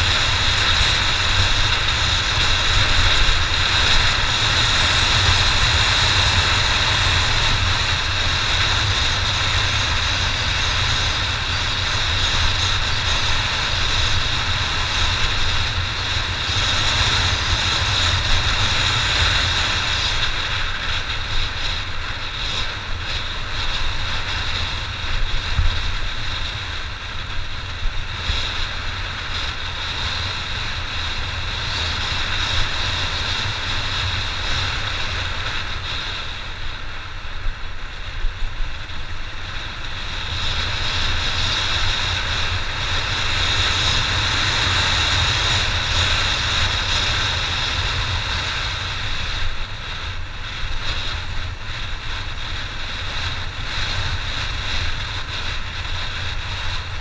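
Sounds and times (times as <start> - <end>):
motorcycle engine rumble: 0.0 - 57.0.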